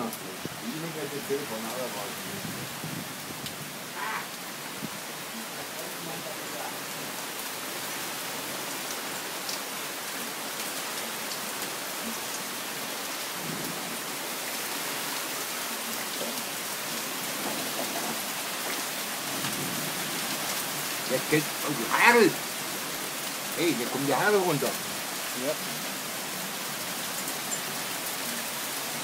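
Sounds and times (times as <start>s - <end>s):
rain pouring: 0.0s - 29.0s.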